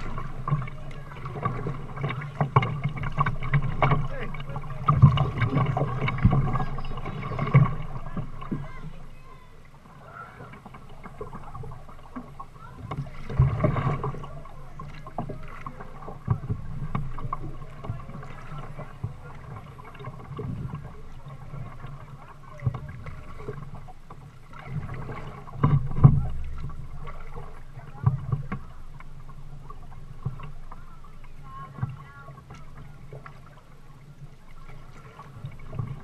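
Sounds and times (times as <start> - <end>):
water splashing against kayak hull: 0.0 - 36.0.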